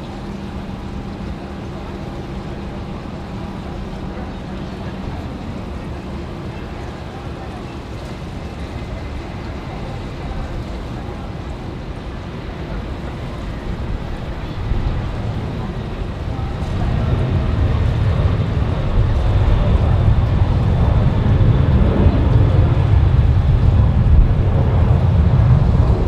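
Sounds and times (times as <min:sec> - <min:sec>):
faint high engine whine: 0:00.0 - 0:26.0
jet engines rumbling: 0:00.0 - 0:26.0.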